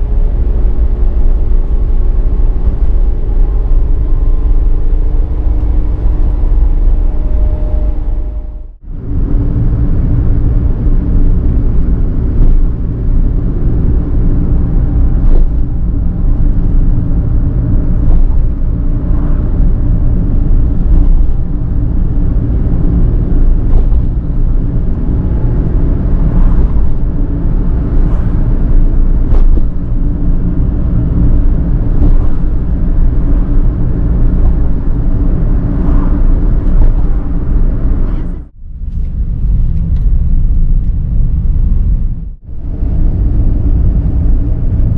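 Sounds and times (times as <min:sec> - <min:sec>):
van engine and road rumble: 0:00.0 - 0:44.9.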